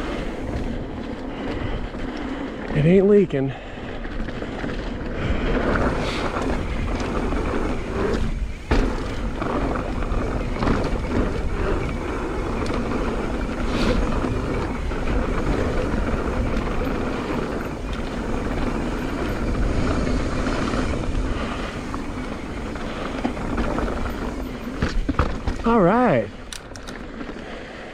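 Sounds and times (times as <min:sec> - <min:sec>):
bike knocks and rattles: 0:00.0 - 0:27.9
bike tyres on dirt trail: 0:00.0 - 0:27.9
wind buffeting microphone: 0:00.0 - 0:27.9.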